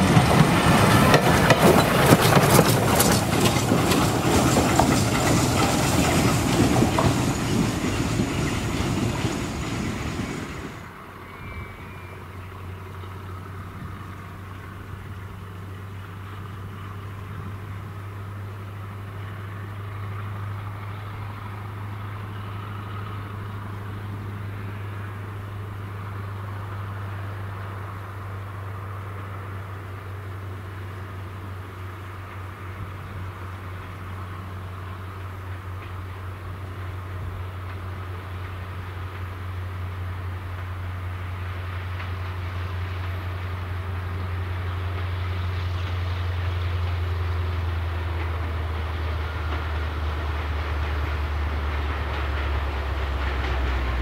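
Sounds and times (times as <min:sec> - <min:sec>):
train passing with wheel clatter: 0:00.0 - 0:54.0.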